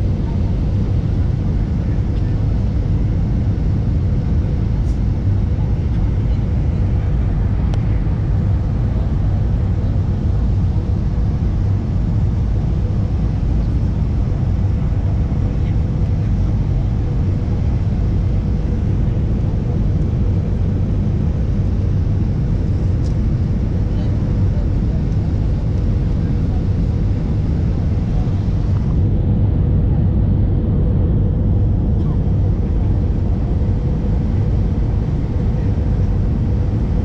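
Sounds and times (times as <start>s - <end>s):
jet engine roar in cabin: 0.0s - 37.0s.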